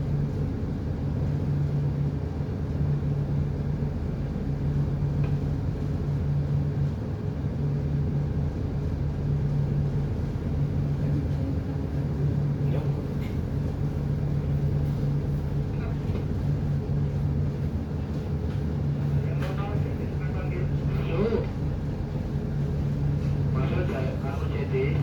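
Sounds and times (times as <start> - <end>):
large engine humming and rumbling: 0.0 - 25.0.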